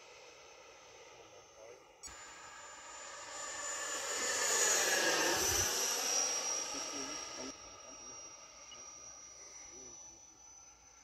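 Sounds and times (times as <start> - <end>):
electric ducted fan whining: 0.0 - 9.9.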